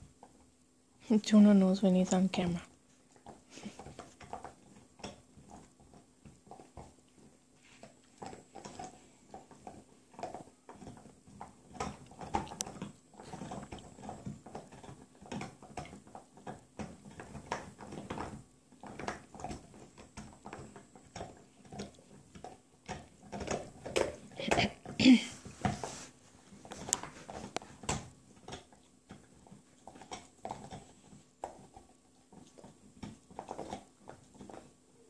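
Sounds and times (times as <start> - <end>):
dogs gnawing on bones: 0.0 - 0.5, 2.9 - 34.8.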